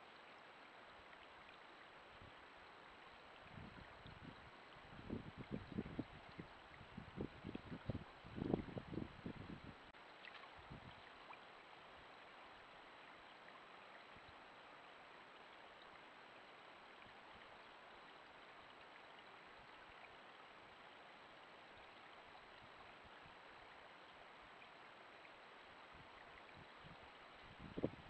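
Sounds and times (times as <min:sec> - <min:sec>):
microphone hiss: 0:00.0 - 0:28.0.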